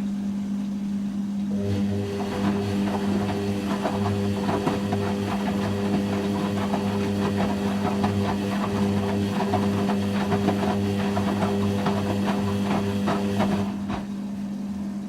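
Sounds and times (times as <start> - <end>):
washing machine spinning: 1.5 - 15.0.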